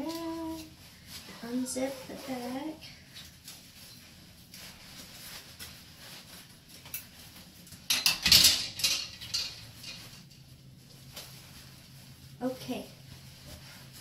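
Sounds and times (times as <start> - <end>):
stiff fabric rustling: 0.0 - 14.0.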